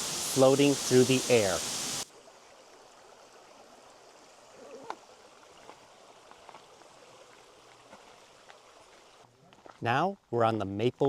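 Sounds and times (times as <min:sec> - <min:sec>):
running water: 0:00.0 - 0:09.8.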